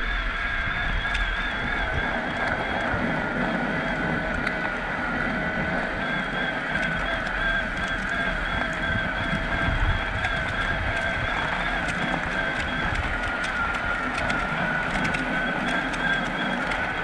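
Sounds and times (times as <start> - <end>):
electric bike motor whining: 0.0 - 17.0
tyres rumbling on snow: 0.0 - 17.0.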